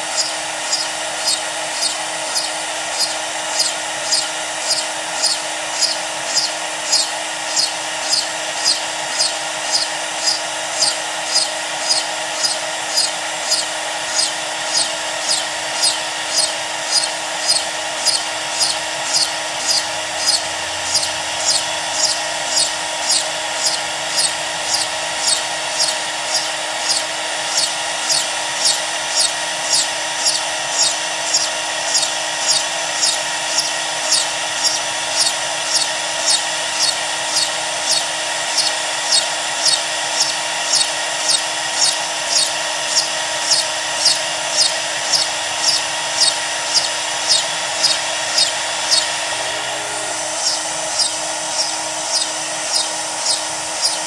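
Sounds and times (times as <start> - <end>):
drill bit cutting into wood: 0.0 - 54.0
router spindle running: 0.0 - 54.0.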